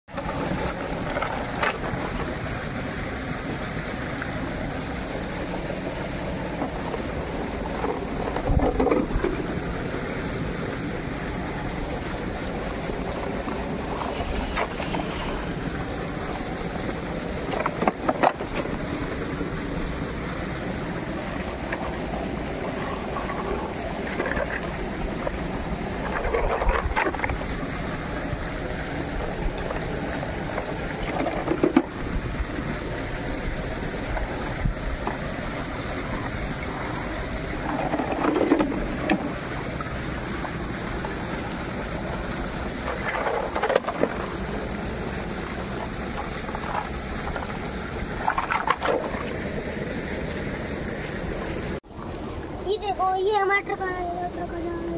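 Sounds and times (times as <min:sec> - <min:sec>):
shallow stream running: 0:00.1 - 0:54.9
wind on microphone: 0:00.2 - 0:44.6.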